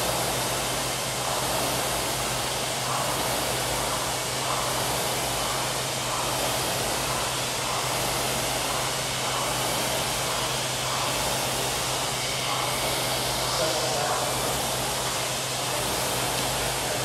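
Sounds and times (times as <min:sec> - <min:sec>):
rowing machine flywheel whirring: 0:00.0 - 0:17.0.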